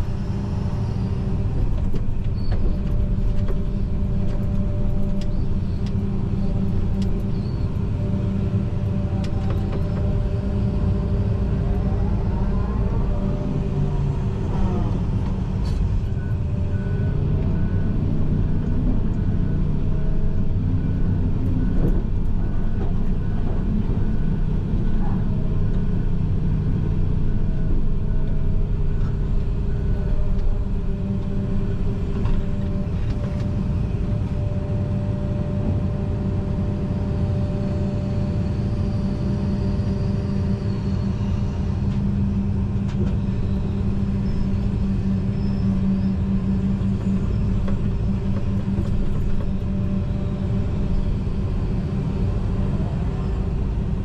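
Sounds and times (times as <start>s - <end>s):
excavator engine droning: 0.0s - 54.0s.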